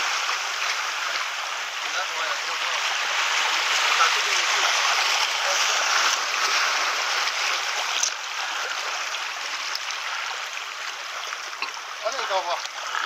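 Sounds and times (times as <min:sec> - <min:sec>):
seawater washing among rocks: 0:00.0 - 0:13.0.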